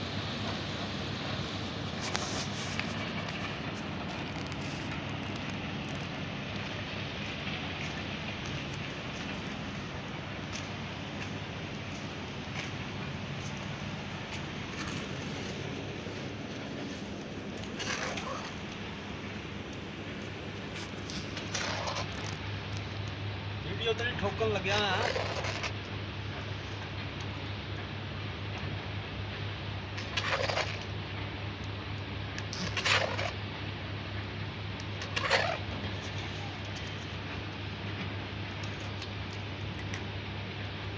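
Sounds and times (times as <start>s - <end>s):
machinery humming: 0.1s - 40.9s.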